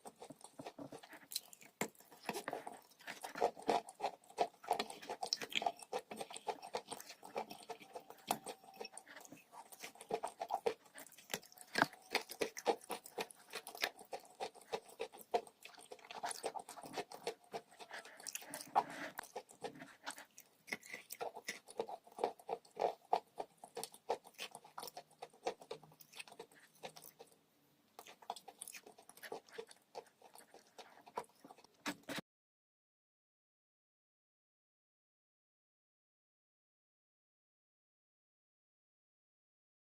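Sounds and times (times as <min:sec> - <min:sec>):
crunchy chewing: 0:00.0 - 0:32.2.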